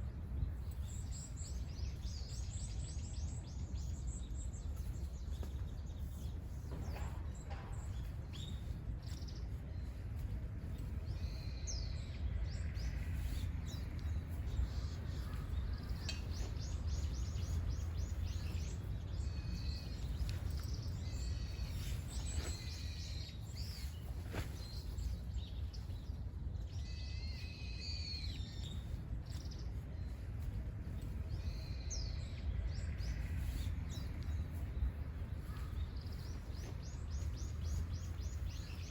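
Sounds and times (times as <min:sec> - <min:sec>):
birds chirping and singing: 0:00.0 - 0:38.9
steady low rumble: 0:00.0 - 0:38.9.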